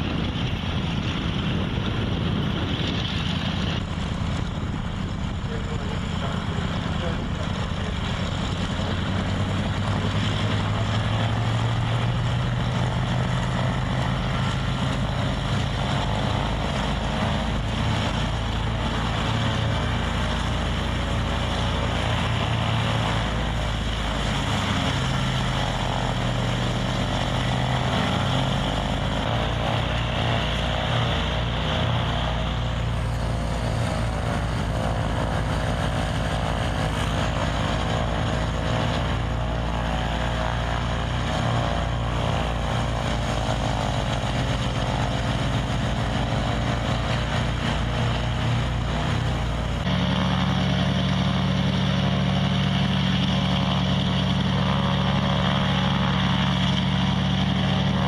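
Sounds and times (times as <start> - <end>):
propeller engines running: 0.0 - 58.0.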